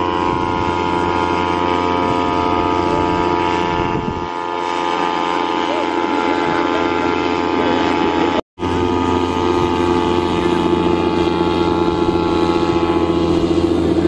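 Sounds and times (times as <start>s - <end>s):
kite humming bow drone: 0.0s - 14.0s.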